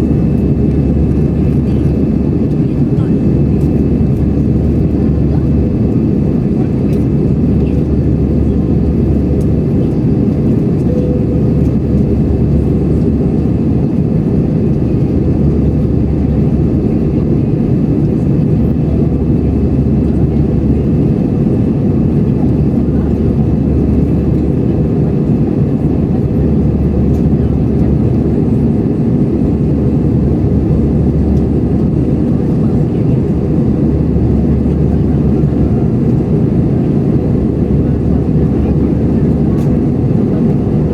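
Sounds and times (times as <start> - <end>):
airplane cabin engine and airflow noise: 0.0 - 40.9.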